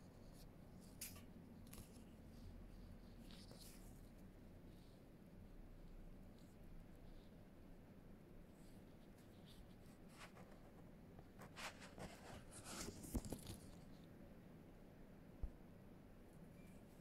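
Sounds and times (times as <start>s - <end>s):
faint scratchy rustling: 0.0s - 14.2s.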